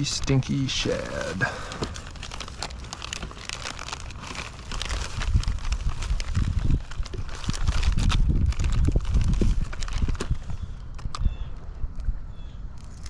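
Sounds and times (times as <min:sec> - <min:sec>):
gear crinkling and clicking: 0:00.1 - 0:11.3.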